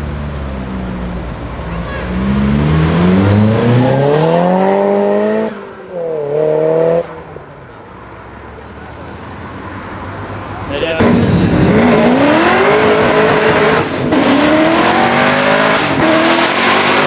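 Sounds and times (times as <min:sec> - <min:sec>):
car engine revving: 0:00.0 - 0:07.4, 0:09.1 - 0:17.0.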